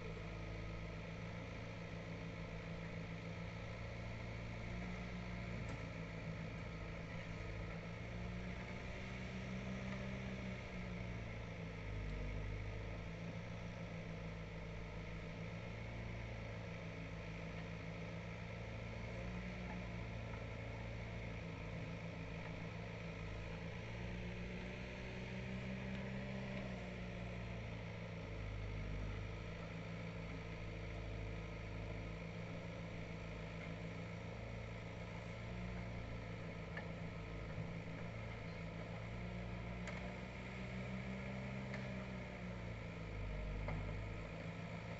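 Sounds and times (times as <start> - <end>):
diesel engine running at low revs: 0.0 - 44.9.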